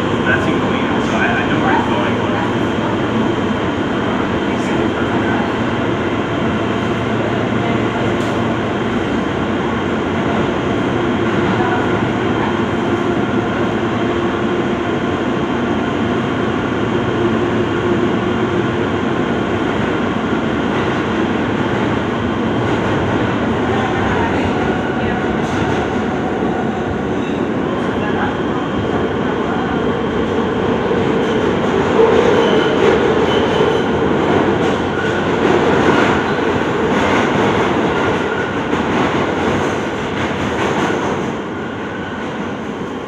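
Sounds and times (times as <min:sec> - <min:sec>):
subway wheels on rail: 0:00.0 - 0:43.0.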